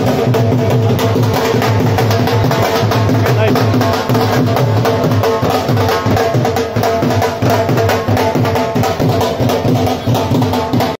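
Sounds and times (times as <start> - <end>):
barrel drums beaten with sticks: 0.0 - 11.0.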